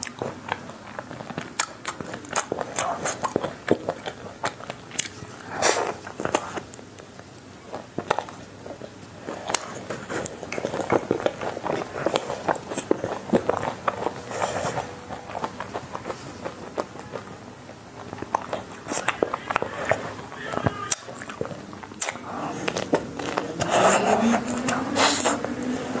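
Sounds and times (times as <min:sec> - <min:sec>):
biting and chewing ice cream bar: 0:00.0 - 0:26.0.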